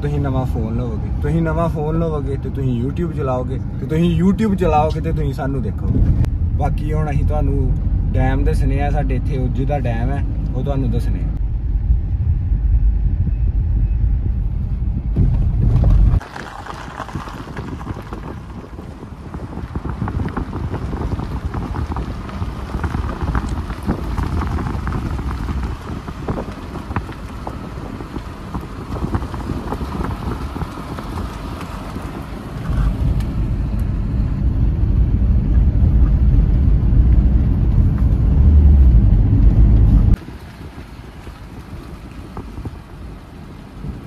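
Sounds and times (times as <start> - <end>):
car road noise: 0.0 - 44.0
wind rushing over microphone: 0.0 - 44.0.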